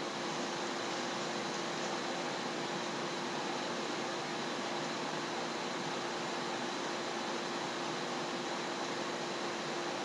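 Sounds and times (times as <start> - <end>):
faint constant hum: 0.0 - 10.0.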